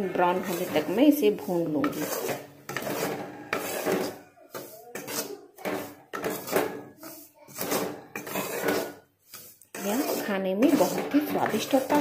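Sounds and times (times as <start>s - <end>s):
metal spatula scraping a pan: 0.0s - 12.0s.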